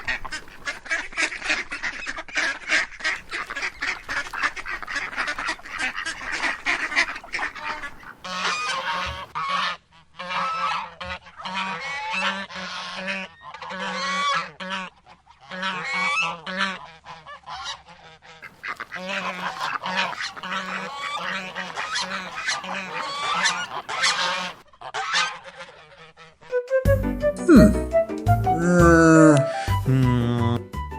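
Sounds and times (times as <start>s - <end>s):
flock of waterfowl calling: 0.0s - 26.5s.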